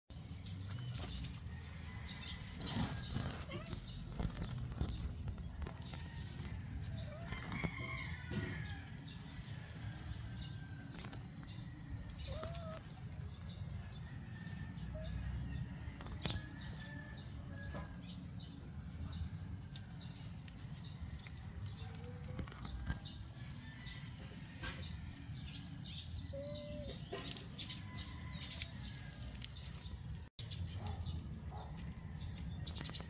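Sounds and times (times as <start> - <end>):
birds chirping: 0.1 - 33.0.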